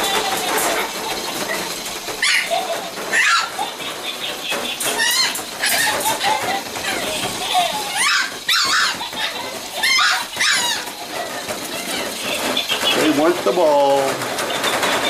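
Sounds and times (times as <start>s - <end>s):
paws scuffling on bedding: 0.0s - 15.0s
puppies whining and squealing: 0.0s - 15.0s.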